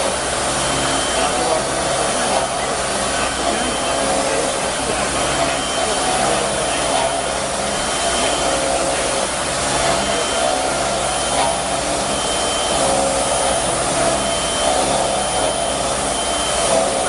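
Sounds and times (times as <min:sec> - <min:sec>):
cnc machine whirring: 0:00.0 - 0:17.0.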